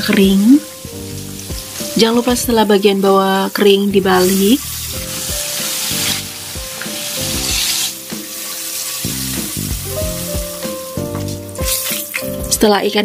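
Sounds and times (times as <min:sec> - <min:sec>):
fish frying in hot oil: 0:00.0 - 0:12.7
soft background music: 0:00.0 - 0:13.0.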